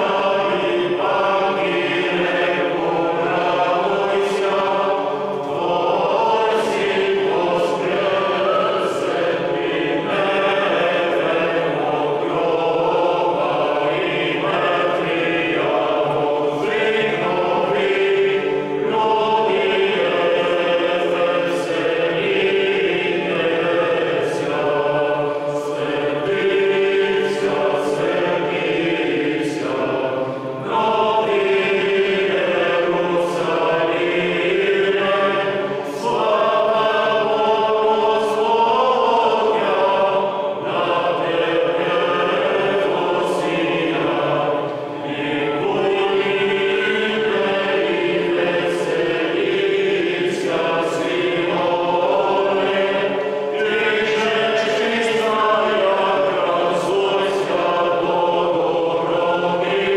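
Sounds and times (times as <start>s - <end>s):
men's choir chanting: 0.0s - 59.9s.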